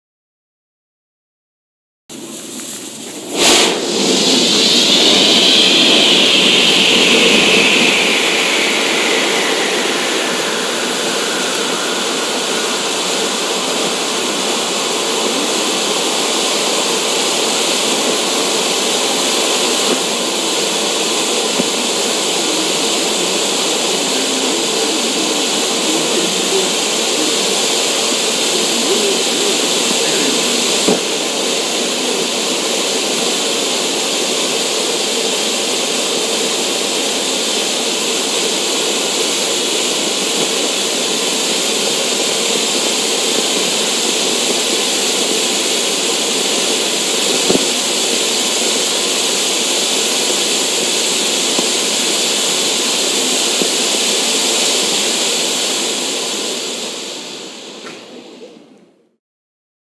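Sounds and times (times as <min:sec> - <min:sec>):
smoke firework hissing: 0:02.2 - 0:58.5.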